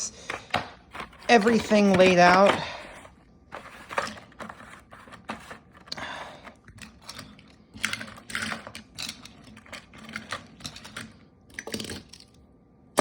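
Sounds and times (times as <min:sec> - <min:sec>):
plastic packs clicking and tapping: 0:00.0 - 0:12.4.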